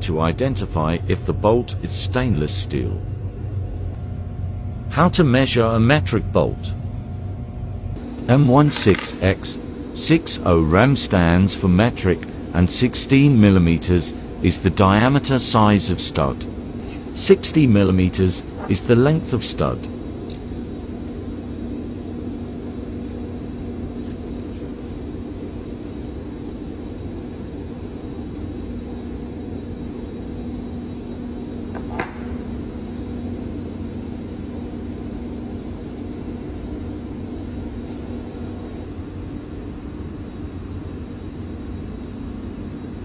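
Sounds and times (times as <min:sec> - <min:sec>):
machinery drone: 0:00.0 - 0:43.0.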